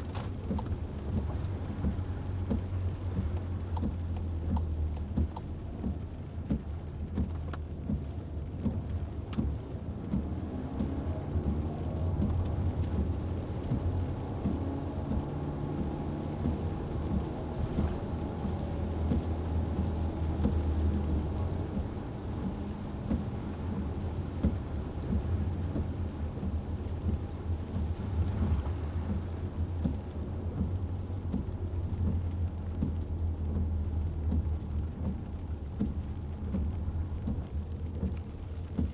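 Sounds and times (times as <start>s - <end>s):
rain pattering on vehicle: 0.0s - 38.9s
vehicle road and engine rumble: 0.0s - 38.9s.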